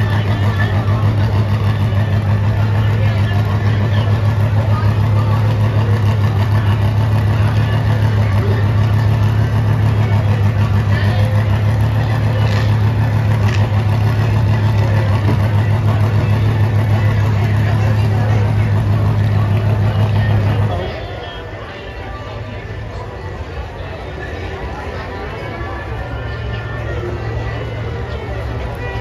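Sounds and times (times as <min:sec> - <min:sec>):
vehicle engines idling: 0:00.0 - 0:29.0.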